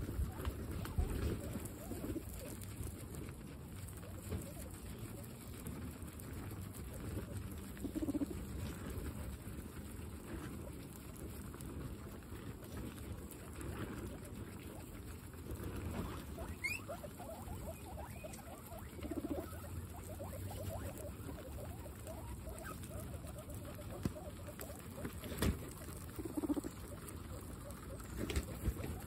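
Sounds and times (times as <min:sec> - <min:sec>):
guinea pigs munching grass: 0:00.0 - 0:29.0.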